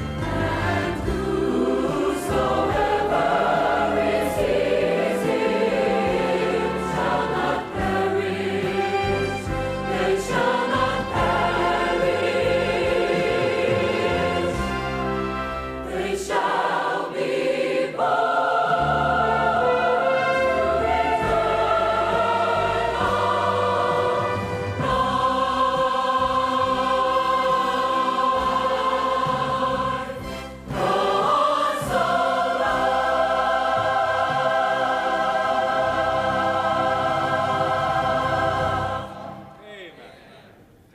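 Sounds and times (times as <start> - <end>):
large choir singing held chords: 0.0 - 39.8.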